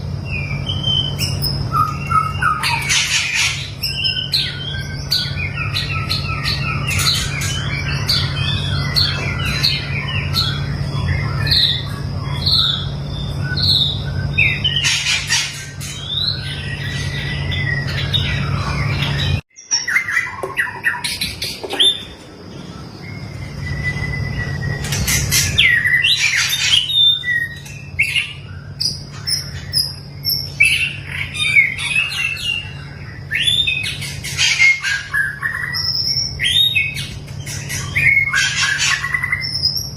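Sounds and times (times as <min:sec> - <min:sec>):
songbird chirping and calling: 0:00.0 - 0:39.9
steady low hum: 0:00.0 - 0:39.9.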